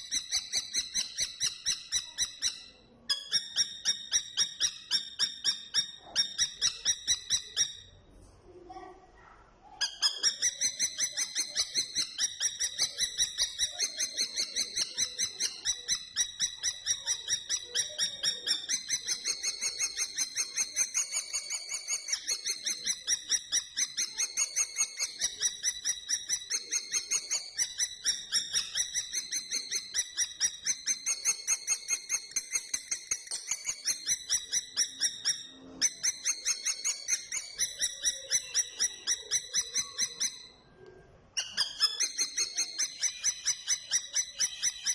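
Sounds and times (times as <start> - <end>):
kestrel calling: 0.0 - 7.8, 9.8 - 40.6, 41.4 - 44.9.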